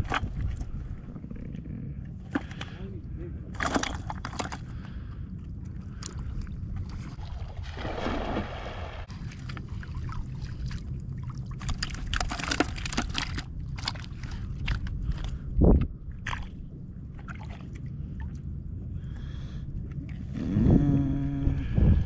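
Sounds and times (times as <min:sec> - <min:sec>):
shallow water sloshing: 0:00.0 - 0:20.3
low rumble: 0:00.0 - 0:22.0.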